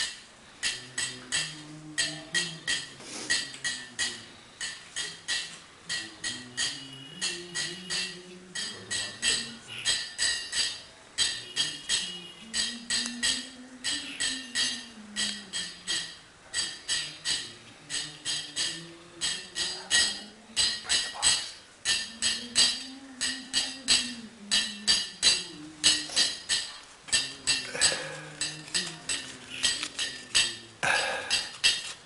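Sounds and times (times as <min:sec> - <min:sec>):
hand cymbals clashing: 0:00.0 - 0:32.0
man chanting: 0:00.6 - 0:05.2, 0:05.8 - 0:10.2, 0:11.2 - 0:26.5, 0:27.1 - 0:31.9.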